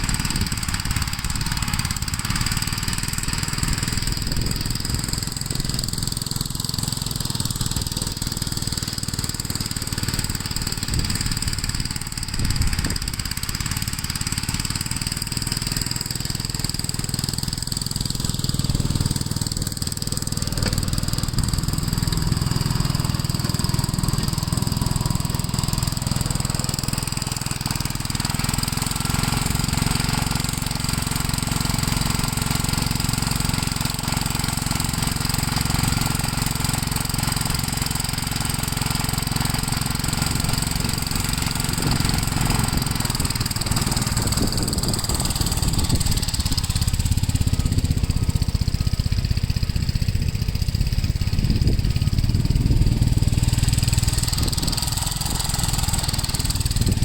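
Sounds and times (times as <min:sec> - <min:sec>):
walk-behind tractor engine running: 0:00.0 - 0:57.0.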